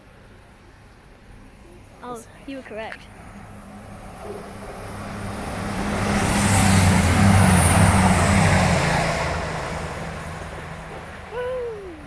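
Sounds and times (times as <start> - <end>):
train passing: 0.1 - 12.0.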